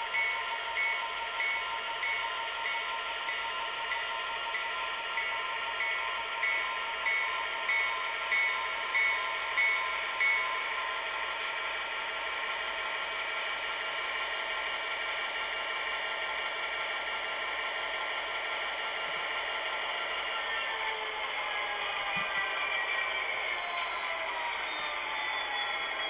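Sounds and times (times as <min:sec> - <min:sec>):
locomotive bell ringing: 0:00.0 - 0:24.6.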